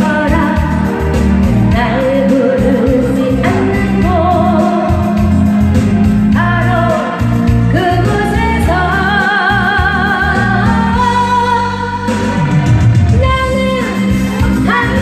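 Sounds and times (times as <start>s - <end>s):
backing track music: 0.0s - 15.0s
person singing with vibrato: 0.0s - 15.0s.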